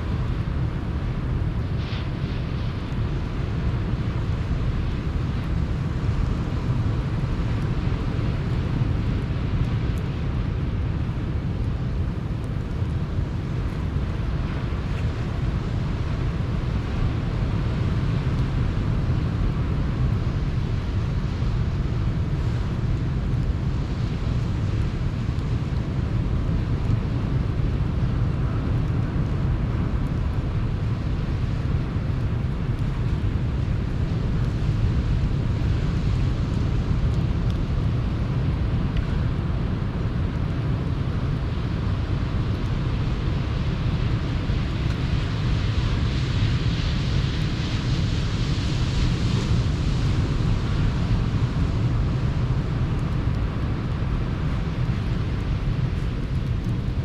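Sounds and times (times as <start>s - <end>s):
sea surf washing on shore: 0.0s - 57.0s
wind rumbling on microphone: 0.0s - 57.0s.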